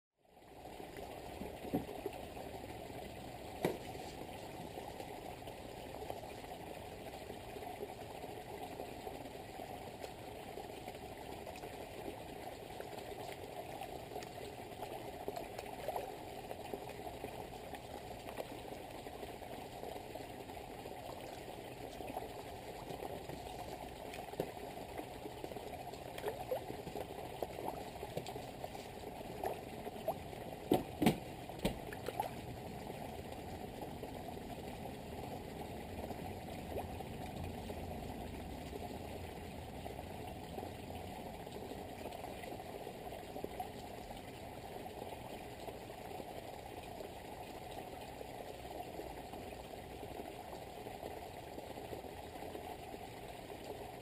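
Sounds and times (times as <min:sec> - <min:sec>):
waterfall splashing into pond: 0:00.5 - 0:54.0.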